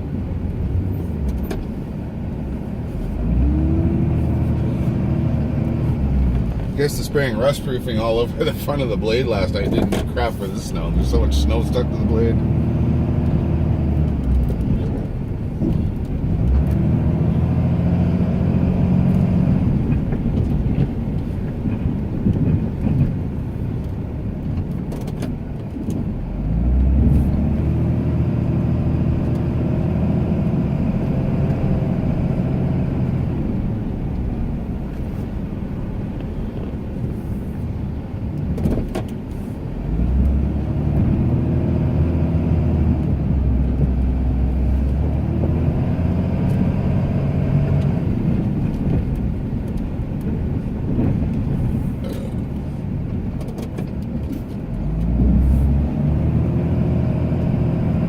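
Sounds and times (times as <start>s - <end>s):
truck engine revving under load: 0.0s - 23.8s, 26.1s - 58.0s.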